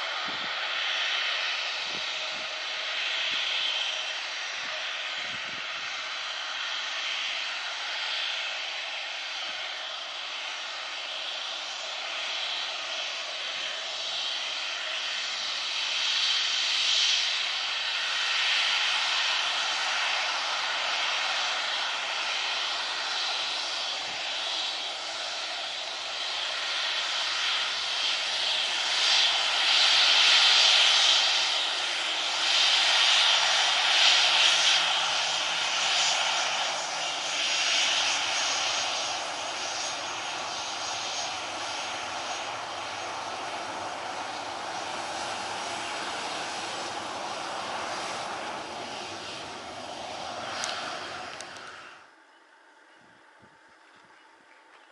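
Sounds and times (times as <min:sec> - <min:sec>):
jet engines whining: 0:00.0 - 0:54.2.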